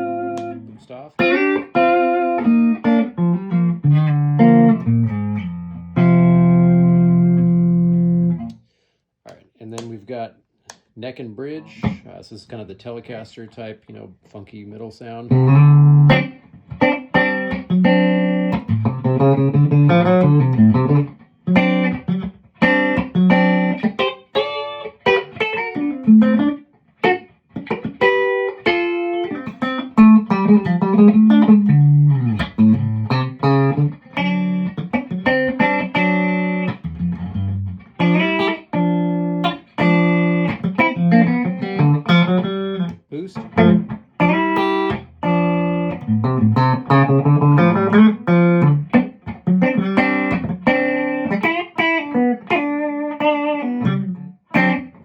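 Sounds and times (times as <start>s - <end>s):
clean electric guitar: 0.0s - 8.6s, 11.5s - 12.2s, 15.3s - 55.0s.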